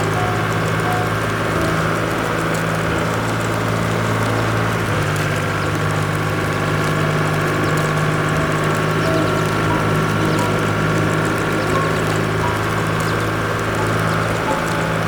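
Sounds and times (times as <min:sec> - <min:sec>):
cartoon engine idling hum: 0:00.0 - 0:15.0.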